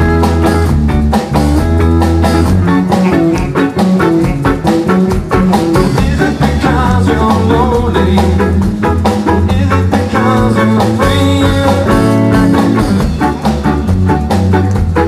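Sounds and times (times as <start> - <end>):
bass: 0.0 - 15.0
drum beat: 0.0 - 15.0
electric guitar: 0.0 - 15.0.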